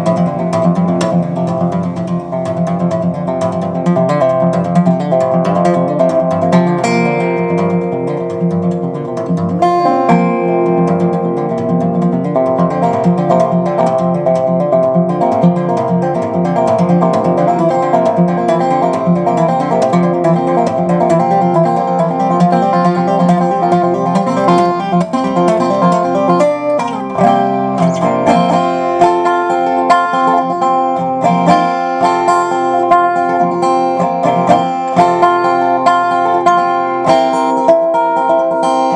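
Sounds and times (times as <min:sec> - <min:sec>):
resophonic guitar plucked: 0:00.0 - 0:38.9.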